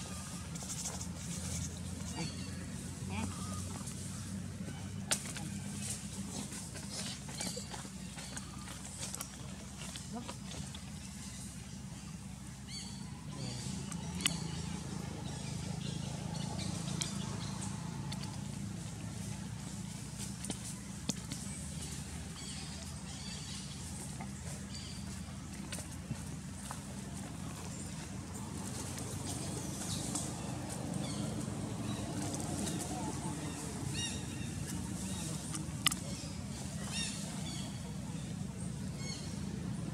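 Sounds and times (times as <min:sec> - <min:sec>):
faint indistinct voices: 0:00.0 - 0:39.9
low background rumble: 0:00.0 - 0:39.9.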